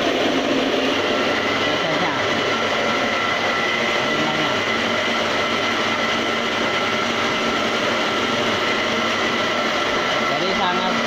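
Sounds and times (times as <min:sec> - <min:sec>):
electric motor humming and whining: 0:00.0 - 0:11.0.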